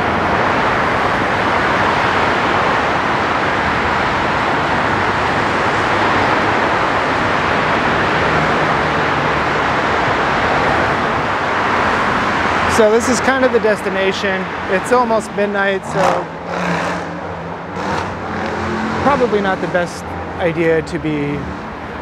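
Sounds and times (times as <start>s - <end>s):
freeway traffic rushing: 0.0s - 22.0s.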